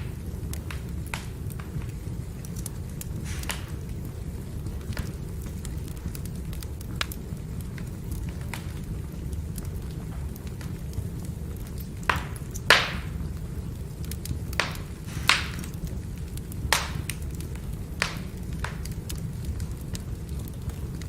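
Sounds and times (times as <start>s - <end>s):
firewood crackling and popping: 0.0s - 21.0s
low rumble of fire: 0.0s - 21.0s.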